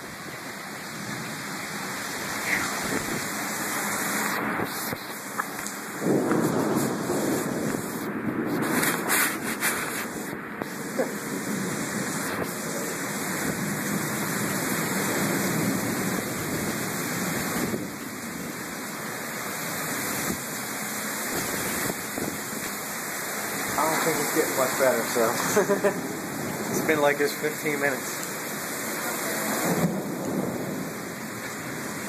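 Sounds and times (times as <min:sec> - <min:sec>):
heavy rain pouring on pavement: 0:00.0 - 0:32.0.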